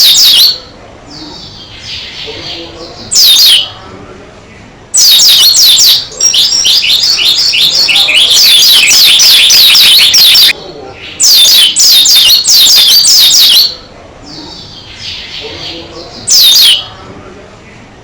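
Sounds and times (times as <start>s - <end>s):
bird singing high chirps: 0.0s - 3.8s, 5.0s - 16.9s.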